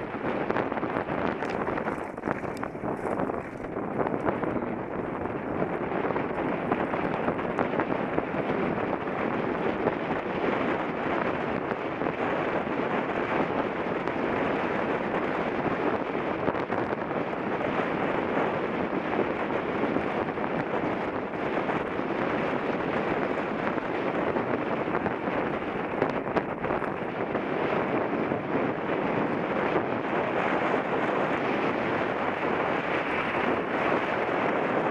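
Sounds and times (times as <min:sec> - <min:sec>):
bike rattling over rough trail: 0:00.0 - 0:34.9
wind rush on microphone: 0:00.0 - 0:34.9.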